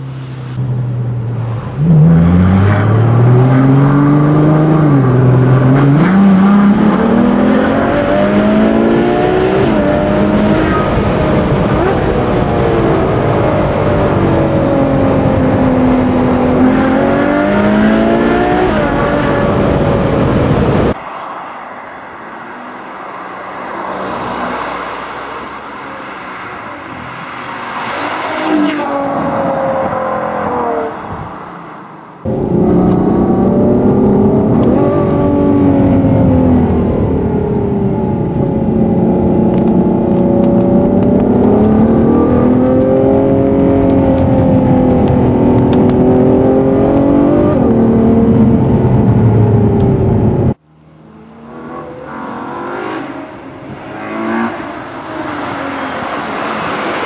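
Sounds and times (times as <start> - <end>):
car engine revving: 0.0 - 21.0, 32.2 - 57.0.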